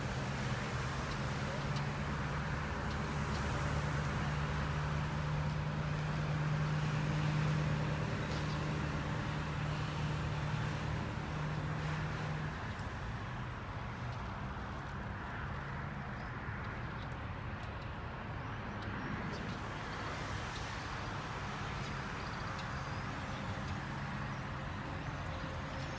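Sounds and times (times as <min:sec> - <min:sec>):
low engine hum: 0:00.0 - 0:14.3, 0:17.7 - 0:25.9
constant background noise: 0:00.0 - 0:25.9.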